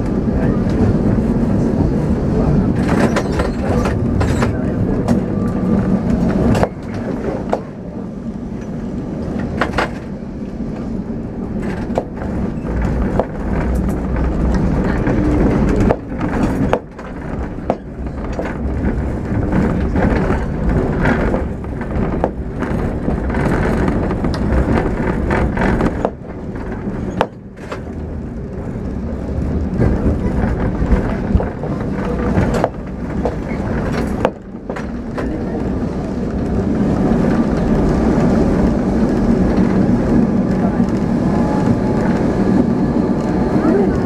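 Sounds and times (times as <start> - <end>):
tram rumbling and rattling: 0.0 - 44.0.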